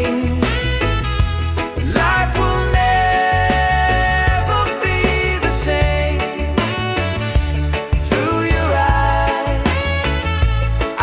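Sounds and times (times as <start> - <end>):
slow reggae pop ballad: 0.0 - 11.0.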